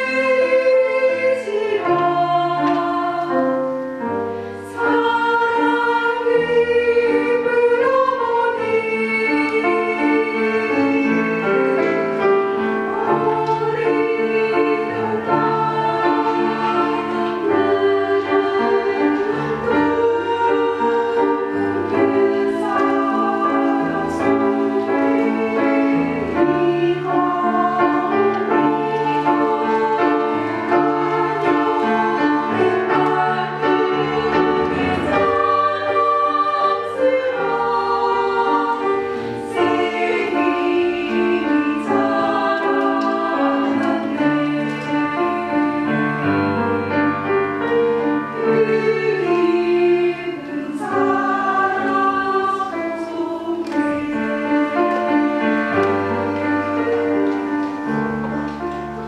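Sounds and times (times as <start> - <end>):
keyboard accompaniment: 0.0 - 59.0
women's choir singing: 0.0 - 59.0.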